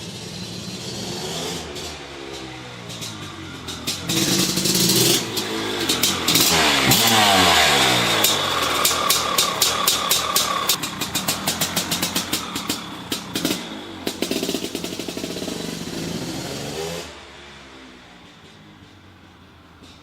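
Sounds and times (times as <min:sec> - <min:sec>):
dirt bike engine revving: 0:00.0 - 0:18.6.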